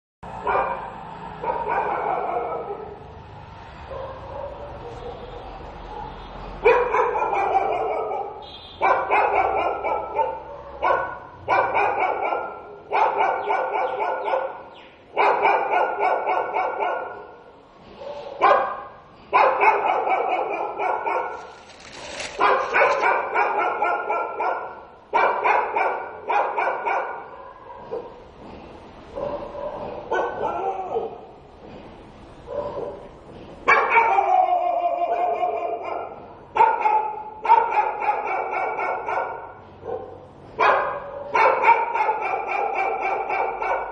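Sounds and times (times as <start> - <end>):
dogs barking: 0.4 - 3.2, 3.8 - 31.6, 32.4 - 43.9.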